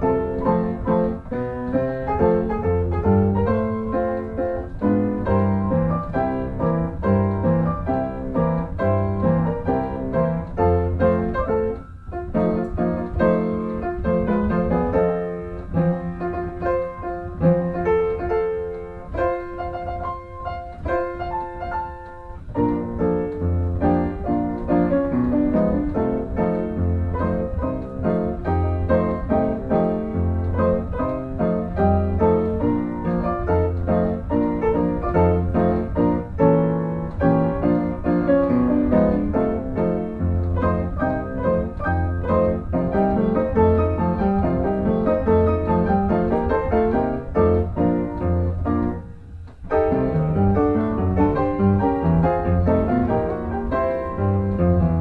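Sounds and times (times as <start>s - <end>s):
instrumental music with piano: 0.0s - 55.0s.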